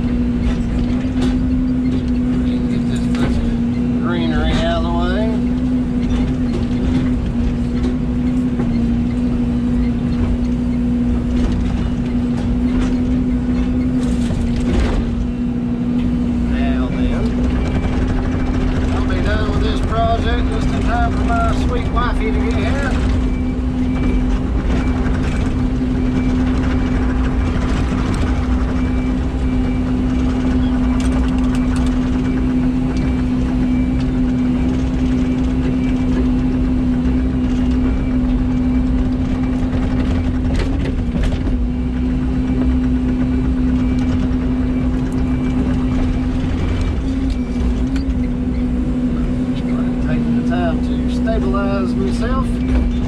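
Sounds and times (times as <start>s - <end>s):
machine knocks and clanks: 0.0s - 4.9s, 5.6s - 15.4s, 17.2s - 48.5s
diesel engine humming: 0.0s - 53.0s.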